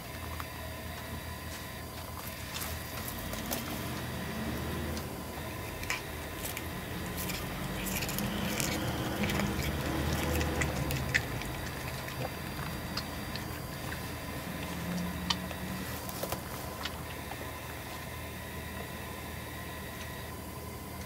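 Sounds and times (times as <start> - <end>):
cat chewing grass: 0.0 - 20.2
low steady hum: 0.0 - 21.0.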